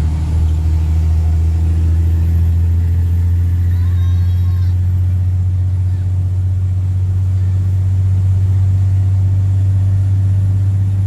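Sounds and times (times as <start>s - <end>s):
diesel engine exhaust drone: 0.0s - 11.0s.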